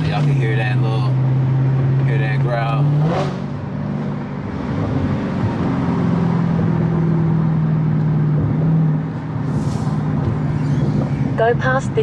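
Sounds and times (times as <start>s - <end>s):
car exhaust growling: 0.0s - 12.0s
road noise: 0.0s - 12.0s.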